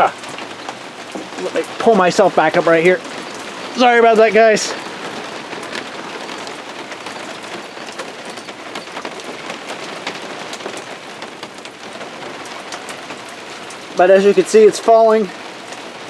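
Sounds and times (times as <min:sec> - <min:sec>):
heavy rain hissing: 0:00.0 - 0:16.0
water pouring off an awning: 0:00.0 - 0:16.0.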